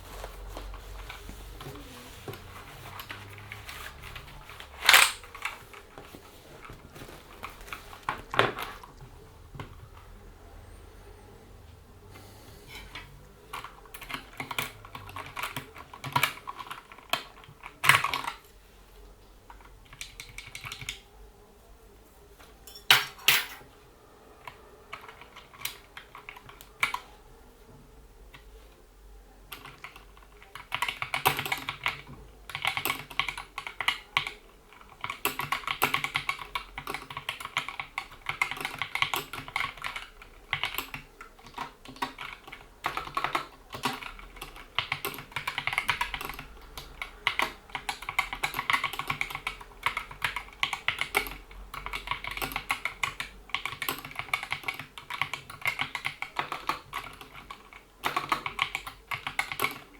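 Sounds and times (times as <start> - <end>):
mechanical keyboard typing: 0.8 - 10.1, 12.9 - 18.5, 19.5 - 21.1, 24.4 - 27.1, 29.5 - 59.9.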